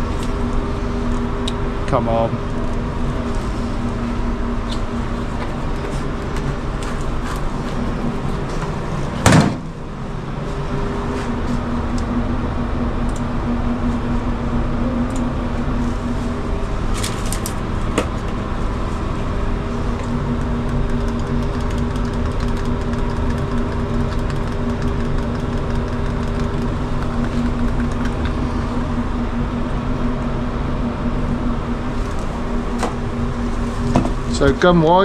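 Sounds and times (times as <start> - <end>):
machinery hum: 0.0 - 35.0.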